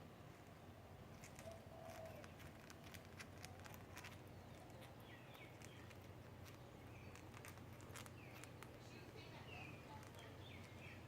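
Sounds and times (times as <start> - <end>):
birds grinding beaks: 0.0 - 11.0
soft bird notes: 0.0 - 11.0.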